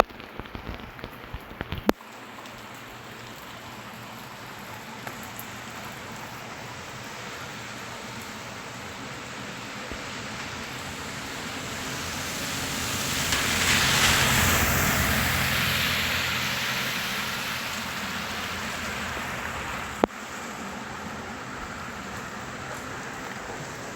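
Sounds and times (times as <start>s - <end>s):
rushing hiss and low rumble: 0.0s - 23.9s
steady rain: 0.0s - 23.9s.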